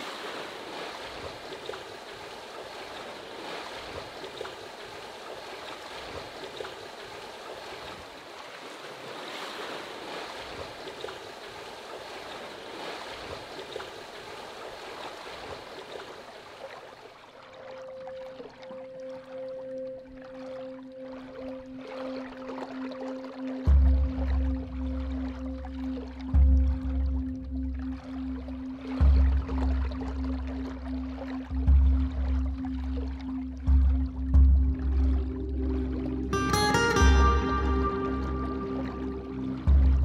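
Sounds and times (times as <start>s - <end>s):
small splashes: 0.0s - 40.0s
water swishing along hull: 0.0s - 40.0s.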